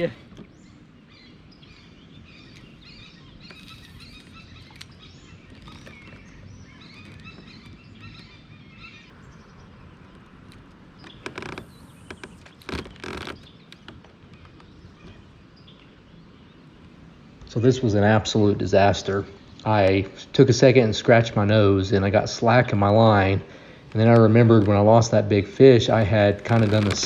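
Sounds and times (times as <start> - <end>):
low outdoor rumble: 0.0 - 27.0
small birds chirping and singing: 0.0 - 27.0.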